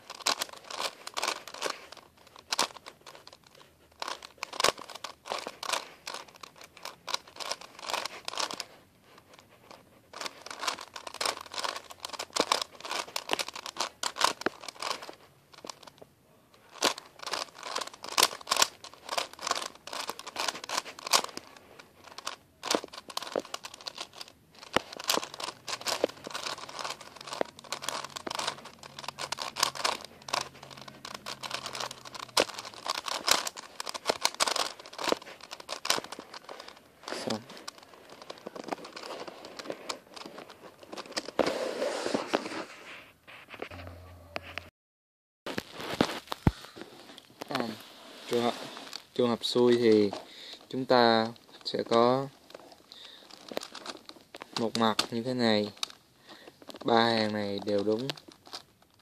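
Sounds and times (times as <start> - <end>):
puzzle cube plastic clicking: 0.0 - 41.5, 48.4 - 59.0.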